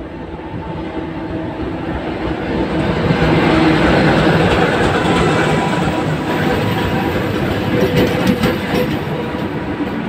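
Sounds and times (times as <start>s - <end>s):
diesel locomotive engine drone: 0.0s - 10.0s.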